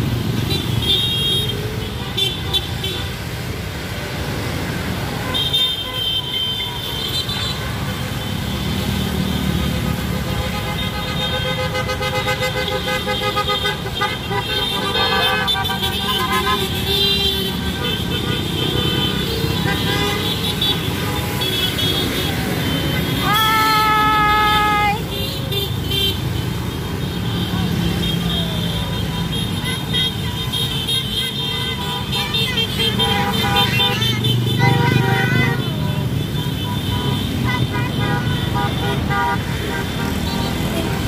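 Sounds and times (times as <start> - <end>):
traffic engines rumbling: 0.0 - 41.0
vehicle horns honking: 0.3 - 3.5, 5.0 - 41.0.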